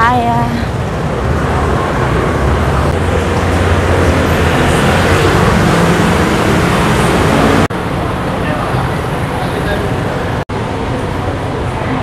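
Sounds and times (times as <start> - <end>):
scooters and cars passing: 0.0 - 12.0.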